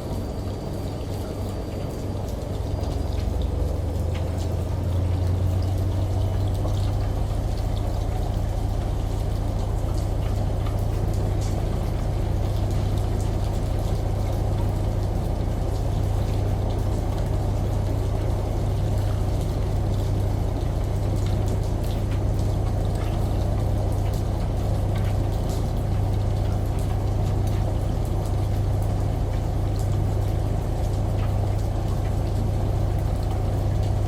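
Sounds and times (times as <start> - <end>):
running water: 0.0 - 34.0
small drips and ticks: 0.0 - 34.0
washing machine humming: 0.0 - 34.0.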